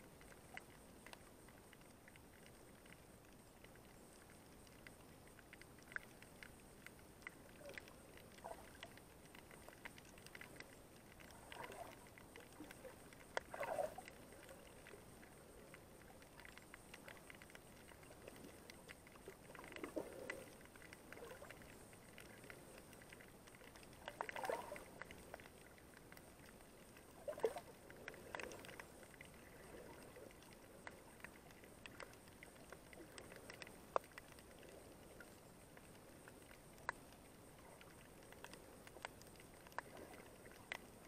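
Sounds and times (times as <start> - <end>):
tiny underwater clicks: 0.0 - 41.0.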